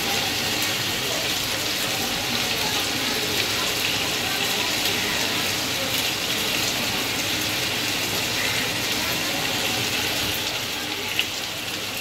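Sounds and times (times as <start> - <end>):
chicken sizzling and crackling: 0.0 - 12.0.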